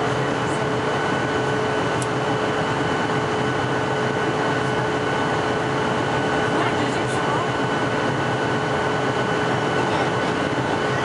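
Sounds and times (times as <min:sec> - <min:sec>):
airliner engine and airflow rush: 0:00.0 - 0:11.0
faint steady whining tones: 0:00.0 - 0:11.0.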